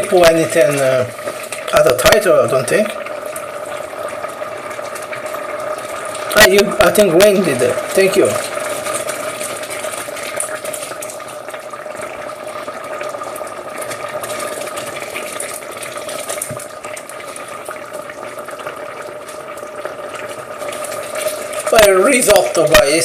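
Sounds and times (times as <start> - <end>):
risotto simmering and crackling: 0.0 - 23.0.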